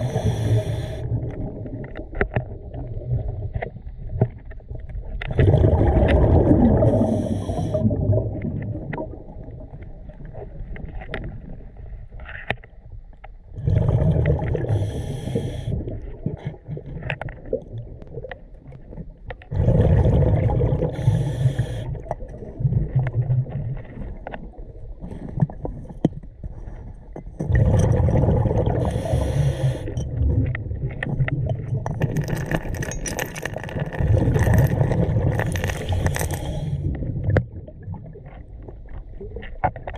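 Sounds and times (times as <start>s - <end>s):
underwater bubbles from diver: 0.0s - 12.1s, 13.5s - 39.9s.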